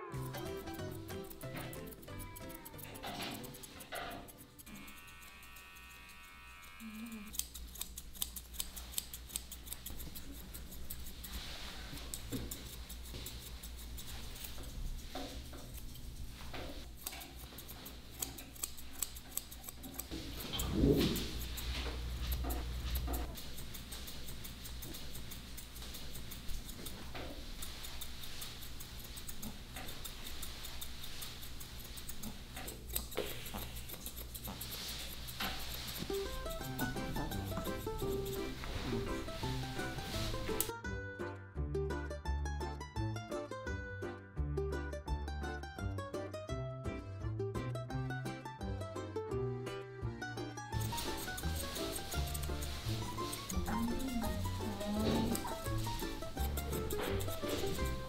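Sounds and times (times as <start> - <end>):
scissors snipping fur: 0.2 - 40.7, 50.7 - 58.0.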